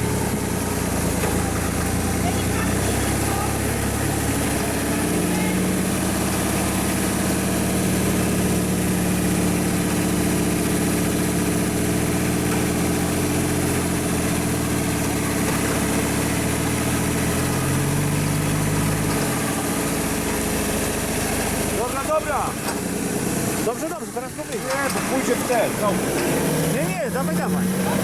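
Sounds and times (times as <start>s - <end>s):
engines idling: 0.0s - 28.0s.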